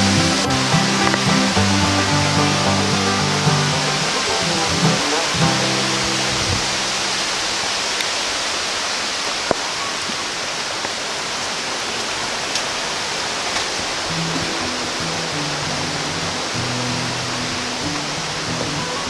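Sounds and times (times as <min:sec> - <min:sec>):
creek rushing over rocks: 0:00.0 - 0:19.0.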